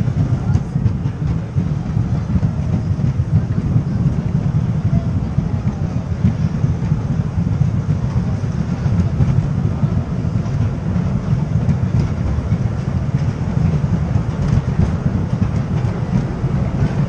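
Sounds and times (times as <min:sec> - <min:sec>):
roller coaster wheels rumbling: 0:00.0 - 0:17.0.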